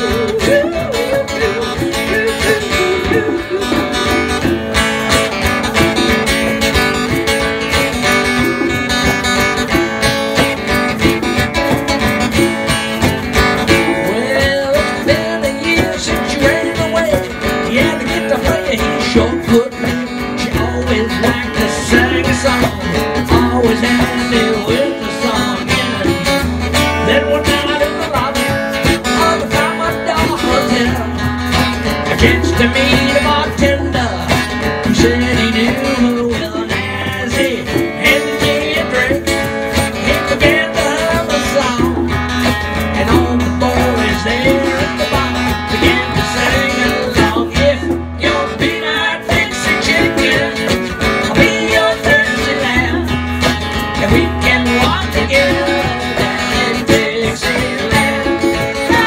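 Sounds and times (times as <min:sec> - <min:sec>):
bass line: 0:00.0 - 0:59.0
conga drum: 0:00.0 - 0:59.0
strummed acoustic guitar: 0:00.0 - 0:59.0.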